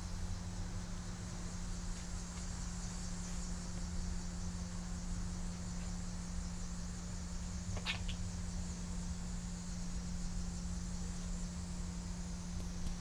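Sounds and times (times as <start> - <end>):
room tone hum and hiss: 0.0 - 13.0.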